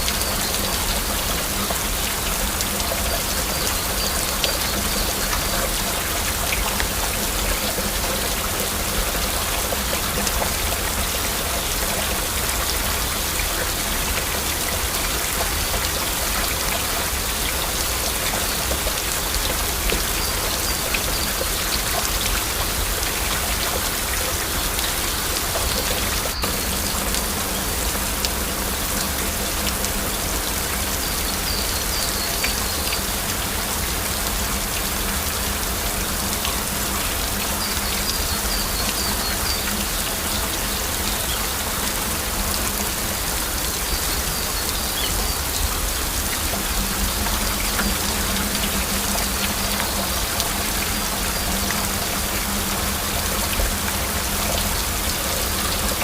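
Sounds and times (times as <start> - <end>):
heavy rain: 0.0 - 56.0
raindrops ticking on hard surface: 0.0 - 56.0.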